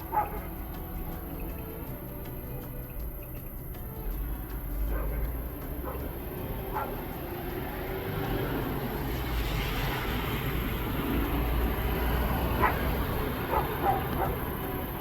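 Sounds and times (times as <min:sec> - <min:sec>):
crickets droning: 0:00.0 - 0:15.0
distant dogs barking: 0:00.0 - 0:15.0.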